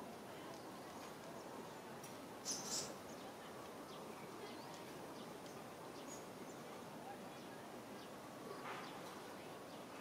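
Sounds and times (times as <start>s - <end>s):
faint outdoor background noise: 0.0s - 10.0s.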